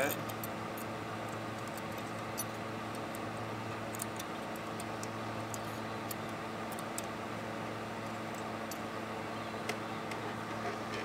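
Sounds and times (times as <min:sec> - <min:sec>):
steady low background hum: 0:00.0 - 0:11.0.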